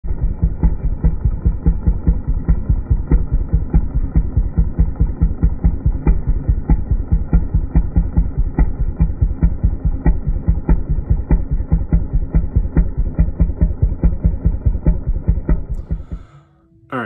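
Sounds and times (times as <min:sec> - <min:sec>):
chainsaw engine idling: 0:00.1 - 0:16.4.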